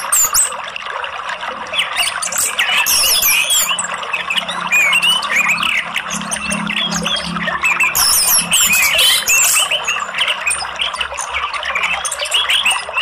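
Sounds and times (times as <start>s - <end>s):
thrush chirping and twittering: 0.0s - 0.8s, 1.5s - 13.0s
running water rushing: 0.0s - 13.0s.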